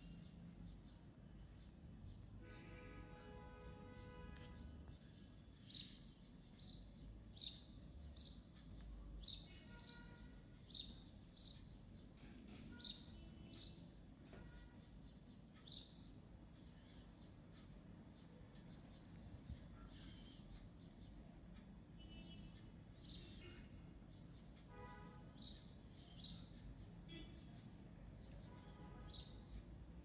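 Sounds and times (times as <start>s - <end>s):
bird chirping: 5.5s - 30.0s.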